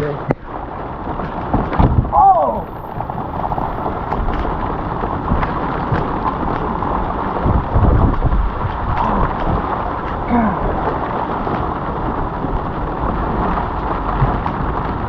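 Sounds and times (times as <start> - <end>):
low thunder rumble: 0.0 - 15.0
rain falling on boat: 0.0 - 15.0
wind buffeting microphone: 0.0 - 15.0.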